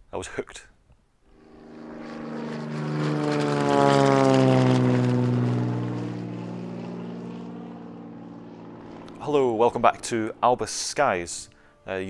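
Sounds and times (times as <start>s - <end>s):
propeller aircraft flying past: 1.2s - 12.0s.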